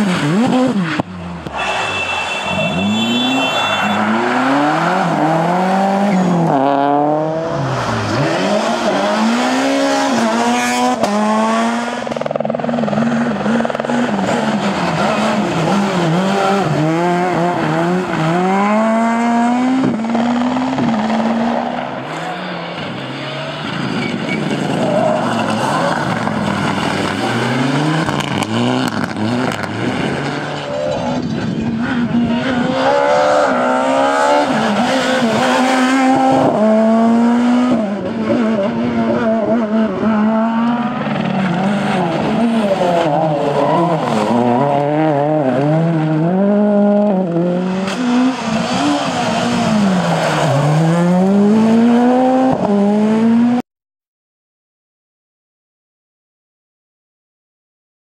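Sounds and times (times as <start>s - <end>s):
rally car engines revving: 0.0s - 1.9s, 2.7s - 53.6s.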